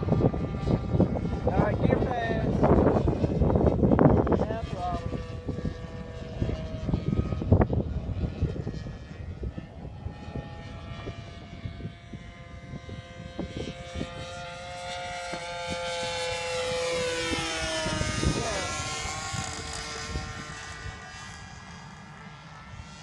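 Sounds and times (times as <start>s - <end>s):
model airplane engine drone: 0.0s - 23.0s
wind hitting microphone: 0.0s - 23.0s.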